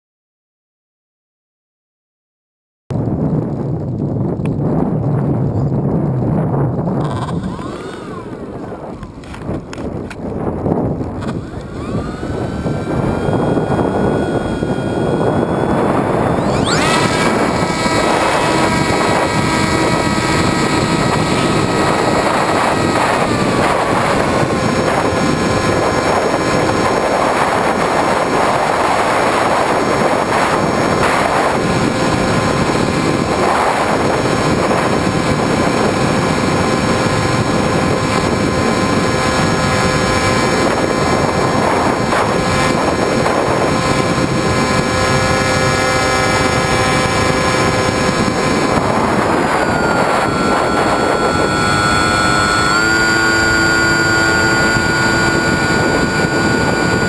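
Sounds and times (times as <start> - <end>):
electric motor and propeller whine: 3.1 - 57.0.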